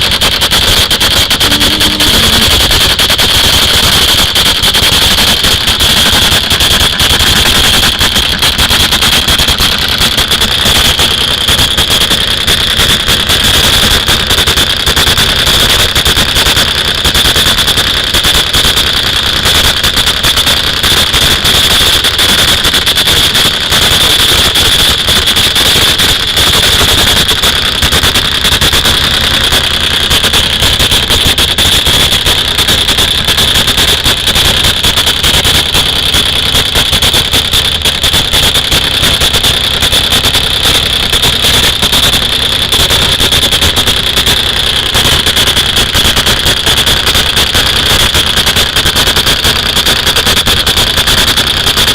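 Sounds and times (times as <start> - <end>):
motorcycle engine with high whine: 0.0 - 51.9.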